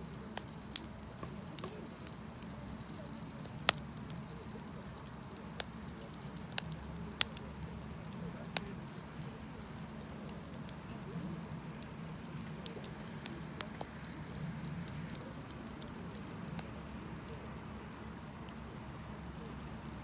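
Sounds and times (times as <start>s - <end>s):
campfire crackles and pops: 0.0s - 20.0s
low fire rumble: 0.0s - 20.0s.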